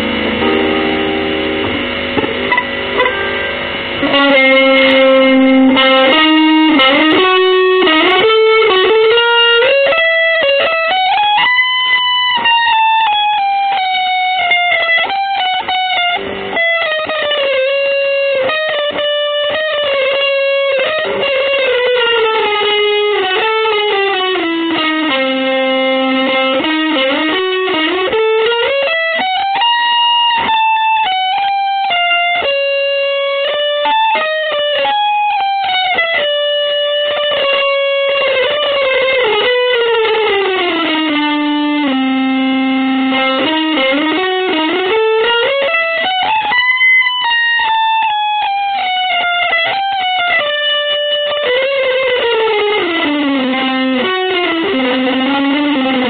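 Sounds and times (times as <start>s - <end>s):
slow electric guitar line: 0.0s - 56.0s.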